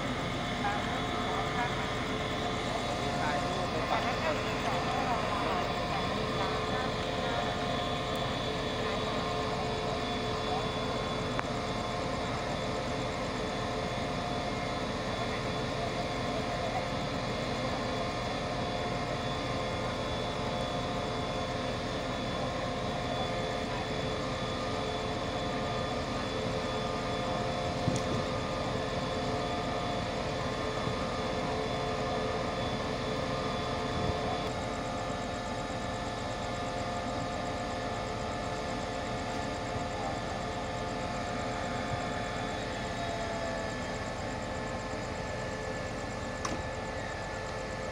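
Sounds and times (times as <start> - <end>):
diesel locomotive engine idling: 0.0 - 47.9.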